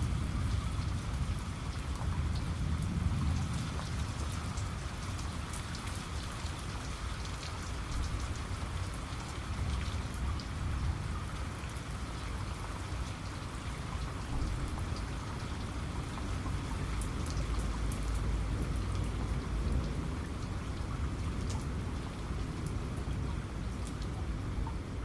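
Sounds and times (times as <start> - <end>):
continuous low rumble: 0.0 - 25.0
rain drops ticking: 0.0 - 25.0.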